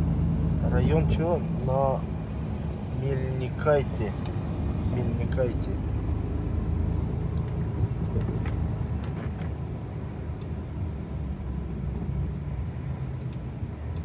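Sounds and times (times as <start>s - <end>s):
truck engine and road noise: 0.0s - 14.0s.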